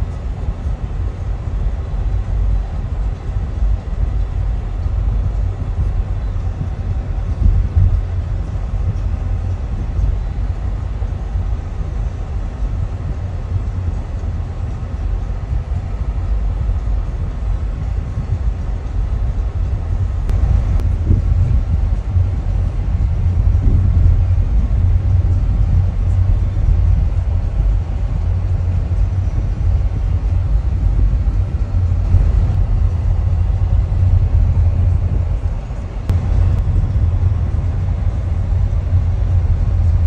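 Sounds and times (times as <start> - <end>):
land train engine rumble: 0.0 - 40.0.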